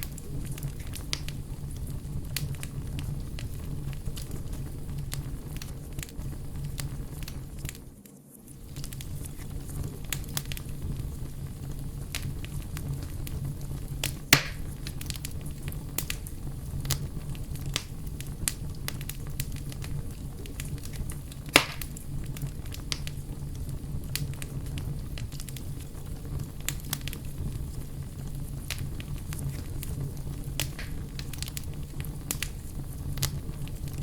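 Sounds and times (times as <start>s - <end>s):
bonfire crackling: 0.0s - 34.0s
fire pops: 0.0s - 34.0s.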